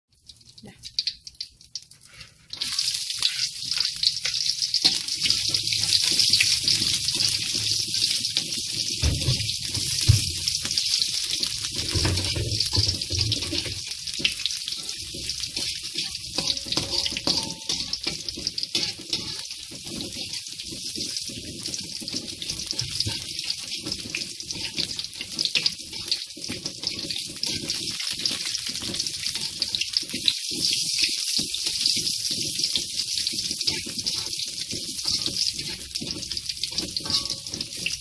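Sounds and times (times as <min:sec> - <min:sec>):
shallots sizzling in hot oil: 0:00.1 - 0:38.0
spatula scraping a wok: 0:02.0 - 0:38.0.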